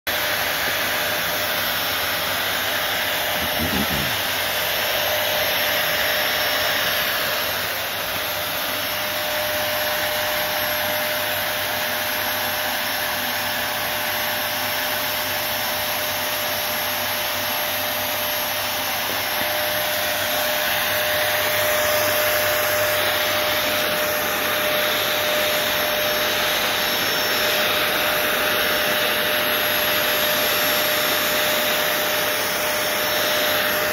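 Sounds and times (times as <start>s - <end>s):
fogger blower motor hissing: 0.1s - 33.9s.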